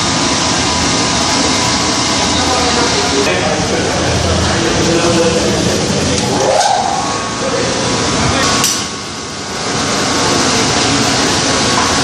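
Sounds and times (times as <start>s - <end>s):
motor-driven test rig running: 0.0s - 12.0s.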